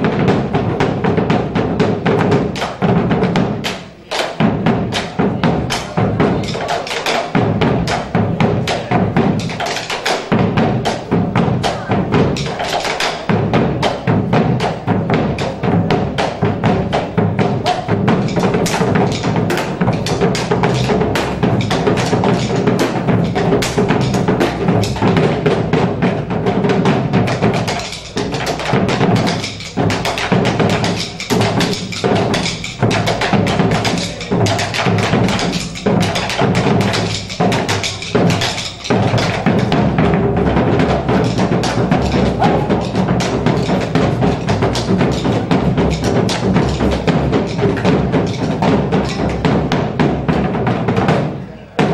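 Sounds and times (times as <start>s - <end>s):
drum and music: 0.0s - 51.9s
rhythmic foot stamping: 0.0s - 51.9s.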